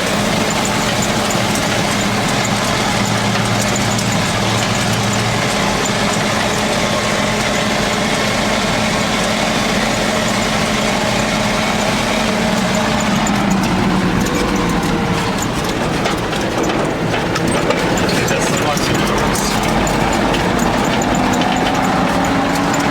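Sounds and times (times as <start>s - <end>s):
truck engine running: 0.0s - 22.9s.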